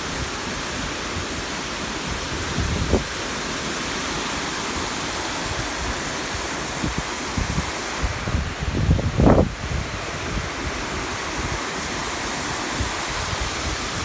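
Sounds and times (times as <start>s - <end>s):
fountain water rushing: 0.0s - 14.0s.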